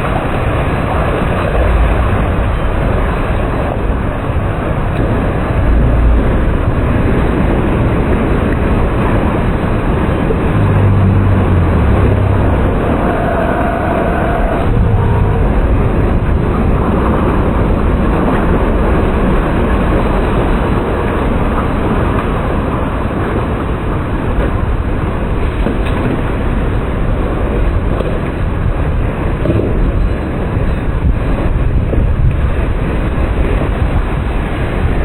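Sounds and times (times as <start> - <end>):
strong wind buffeting microphone: 0.0 - 35.0.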